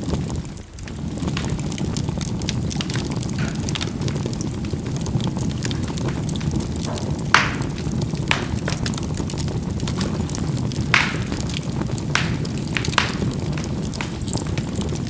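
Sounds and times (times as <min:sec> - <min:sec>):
burning coals popping: 0:00.0 - 0:15.0
fine crackling of coals: 0:00.0 - 0:15.0
low rumble of flames: 0:00.0 - 0:15.0.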